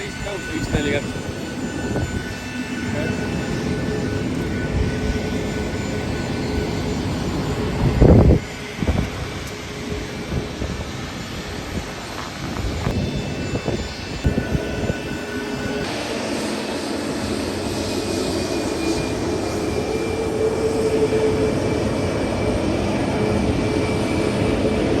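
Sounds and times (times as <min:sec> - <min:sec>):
airplane engines whining: 0:00.0 - 0:25.0.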